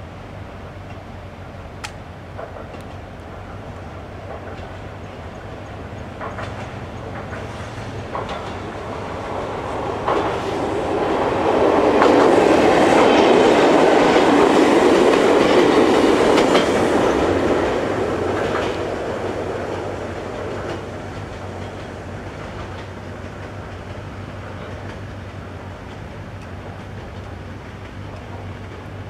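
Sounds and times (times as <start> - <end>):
electric train passing: 0.0 - 29.0
train wheels clacking over joints: 1.8 - 29.0.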